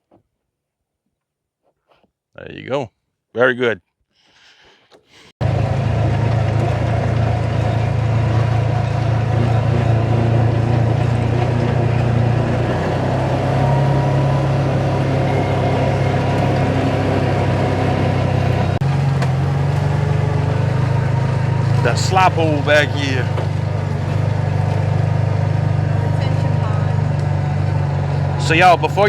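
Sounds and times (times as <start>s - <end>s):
utility vehicle engine drone: 5.4s - 29.0s.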